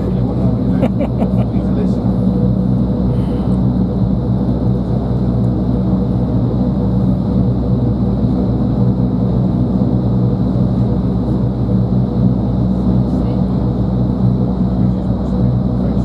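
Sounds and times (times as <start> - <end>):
wind tunnel air rush and hum: 0.0 - 16.0.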